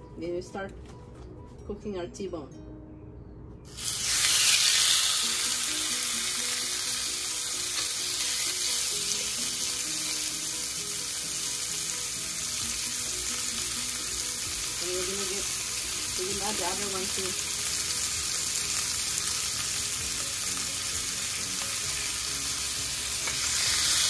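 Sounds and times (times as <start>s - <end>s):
steak sizzling in a grill pan: 3.7s - 24.0s.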